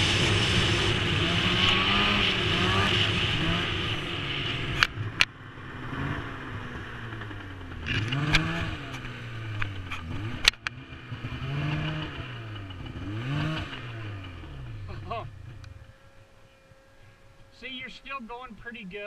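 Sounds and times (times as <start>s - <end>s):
snowmobile engine revving: 0.0s - 15.7s.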